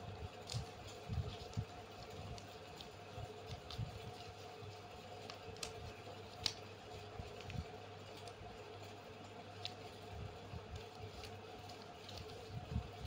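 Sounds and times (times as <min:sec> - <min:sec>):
paper crinkling: 0:00.1 - 0:13.0.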